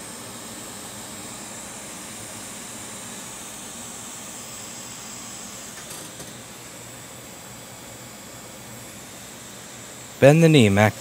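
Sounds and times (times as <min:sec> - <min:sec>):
fan-like air hiss: 0:00.0 - 0:11.0.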